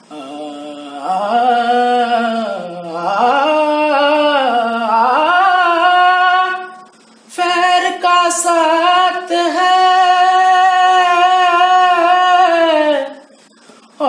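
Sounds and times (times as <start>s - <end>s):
man singing a long held note: 0.1s - 13.2s.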